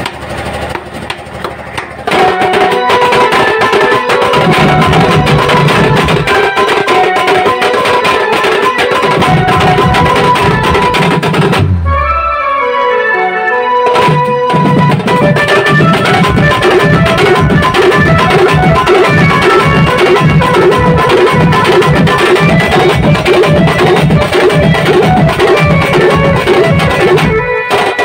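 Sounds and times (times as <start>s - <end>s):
barrel drums beating fast: 0.0s - 12.0s, 13.8s - 28.0s
band melody of long notes: 2.1s - 28.0s.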